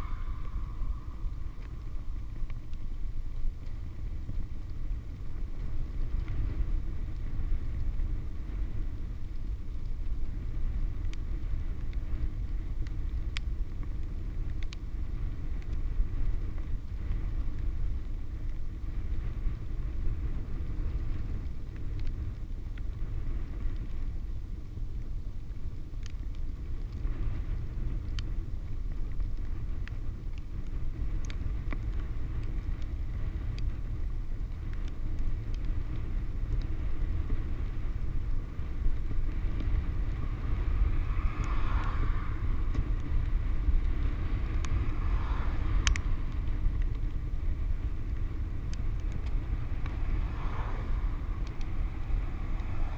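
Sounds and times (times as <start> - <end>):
bicycle tyre rumble: 0.0 - 52.9
faint ticks: 0.0 - 52.9
wind buffeting microphone: 0.0 - 52.9.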